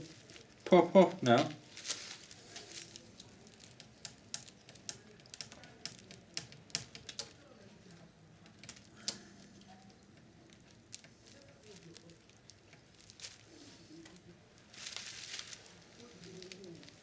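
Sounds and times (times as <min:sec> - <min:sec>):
plastic parts clicking: 0:01.7 - 0:17.0.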